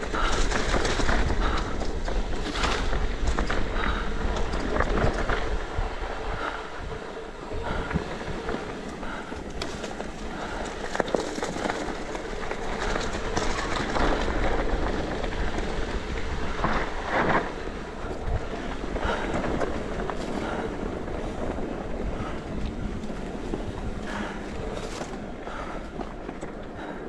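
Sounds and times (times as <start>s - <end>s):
bike chain and frame rattling: 0.0s - 27.0s
bike tyres crunching on dirt: 0.0s - 27.0s
wind rumbling on microphone: 0.0s - 27.0s.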